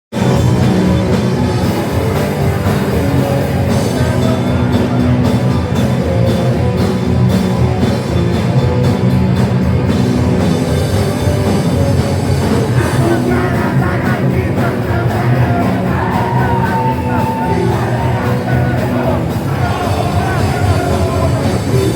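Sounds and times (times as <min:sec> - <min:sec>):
punk band playing live: 0:00.1 - 0:21.9.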